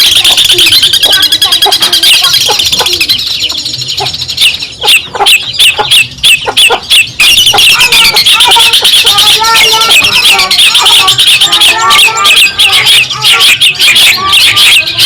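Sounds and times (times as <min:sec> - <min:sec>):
bird chattering song: 0:00.0 - 0:15.0
bird sharp downward calls: 0:00.0 - 0:15.0.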